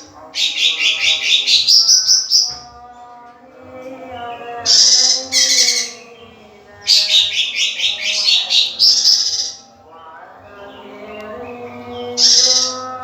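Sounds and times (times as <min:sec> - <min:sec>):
bird chattering song: 0:00.0 - 0:02.7, 0:04.1 - 0:13.0.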